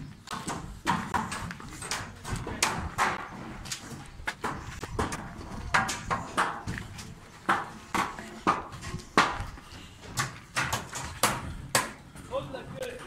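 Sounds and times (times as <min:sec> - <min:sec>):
footsteps crunching on concrete: 0:00.0 - 0:11.2.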